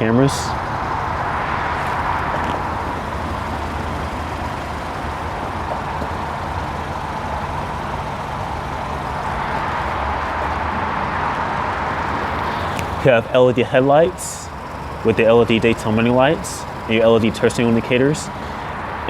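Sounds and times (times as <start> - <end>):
car engine idling: 0.0 - 19.0
outdoor background noise: 0.0 - 19.0.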